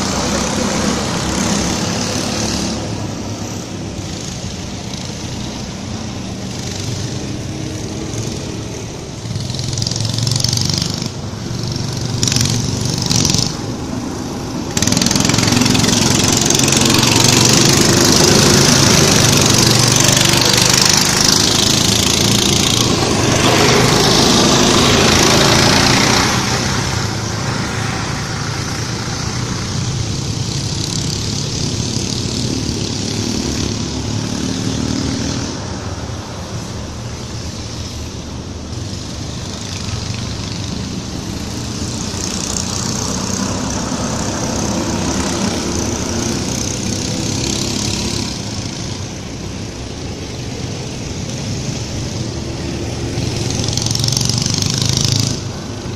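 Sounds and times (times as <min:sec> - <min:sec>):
go-kart engines running: 0:00.0 - 0:55.9.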